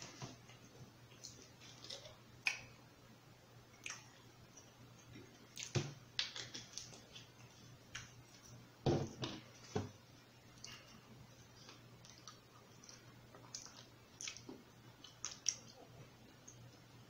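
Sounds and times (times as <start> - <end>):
quiet chewing: 0.0 - 2.8, 3.7 - 8.7, 9.4 - 17.0.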